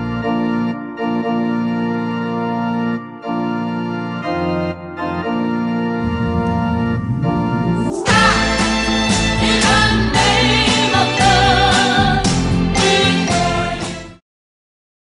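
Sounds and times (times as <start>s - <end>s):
organ playing slow chords: 0.0s - 13.9s.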